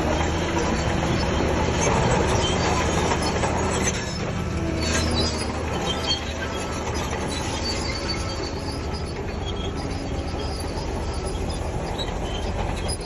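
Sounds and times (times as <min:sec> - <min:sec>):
bulldozer diesel engine running: 0:00.0 - 0:13.0
steel tracks squealing: 0:00.0 - 0:13.0.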